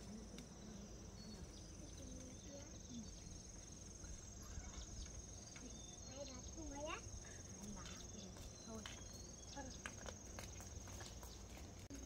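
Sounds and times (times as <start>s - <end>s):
insects trilling: 0.0s - 11.3s.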